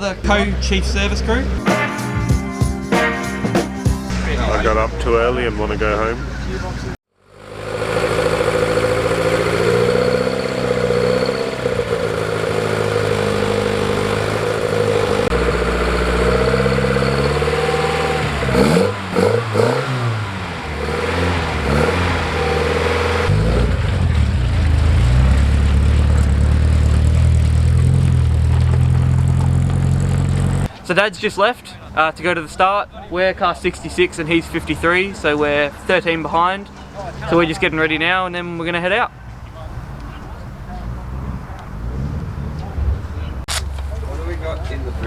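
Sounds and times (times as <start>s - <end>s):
car engine revving: 0.0s - 1.7s, 4.1s - 30.7s, 34.0s - 45.0s.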